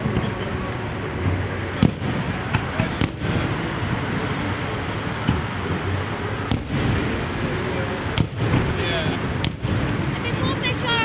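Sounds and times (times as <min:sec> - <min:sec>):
fireworks bangs: 0:00.0 - 0:11.0
fireworks display noise: 0:00.0 - 0:11.0.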